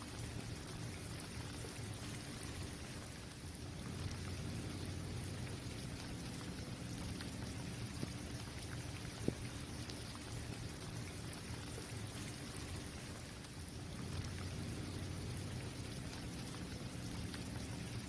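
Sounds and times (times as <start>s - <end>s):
raindrops ticking: 0.0s - 18.0s
steady rain hiss: 0.0s - 18.0s
low steady rumble: 3.5s - 18.0s.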